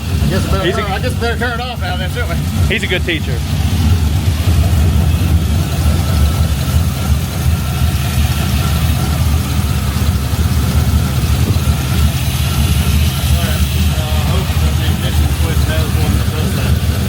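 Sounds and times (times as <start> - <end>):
v eight engine idling: 0.0 - 17.0.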